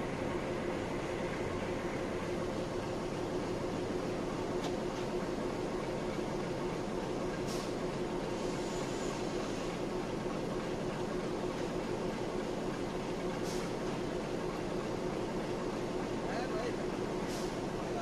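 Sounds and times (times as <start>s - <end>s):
diesel train engine running: 0.0s - 18.0s.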